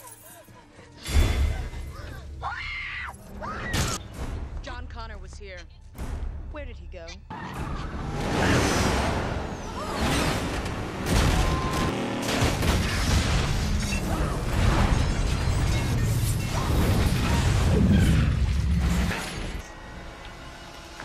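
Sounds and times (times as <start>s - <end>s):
action film music: 0.1s - 21.0s.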